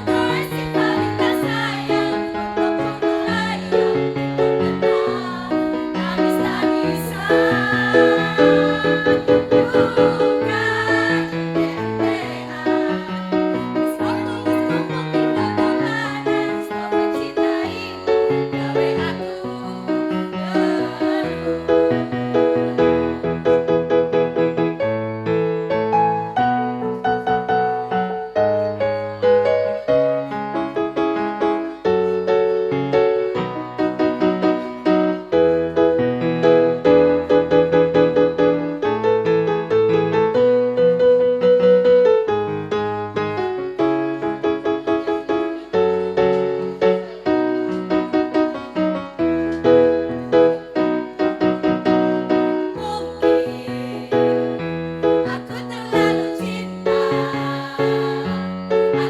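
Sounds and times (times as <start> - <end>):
piano keyboard instrumental: 0.0 - 59.0.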